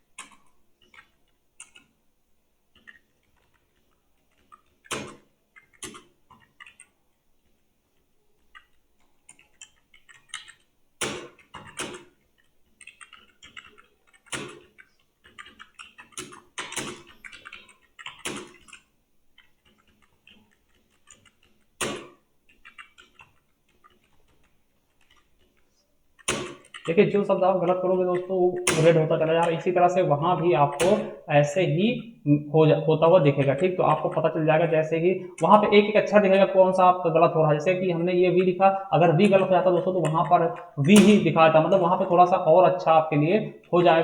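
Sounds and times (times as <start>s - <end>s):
keyboard typing clicks: 0.1s - 1.9s, 2.7s - 6.9s, 8.4s - 25.6s, 26.2s - 44.0s.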